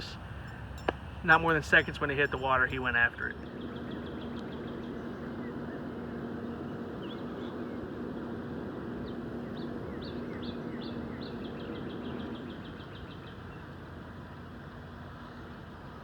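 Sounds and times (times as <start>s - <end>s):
low hum: 0.0s - 16.0s
songbird singing trill: 0.0s - 16.0s.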